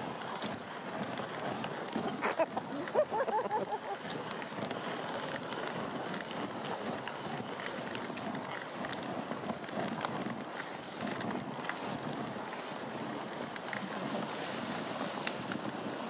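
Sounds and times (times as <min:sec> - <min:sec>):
sled runners hissing over snow: 0:00.0 - 0:16.0.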